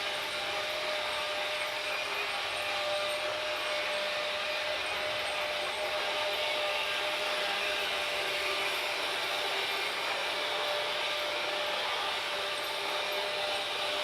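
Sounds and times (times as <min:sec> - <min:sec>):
thin steady whine: 0:00.0 - 0:14.0.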